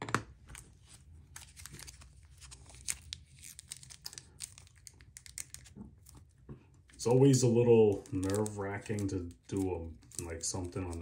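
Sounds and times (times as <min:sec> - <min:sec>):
plastic bag crinkling: 0:01.3 - 0:11.0.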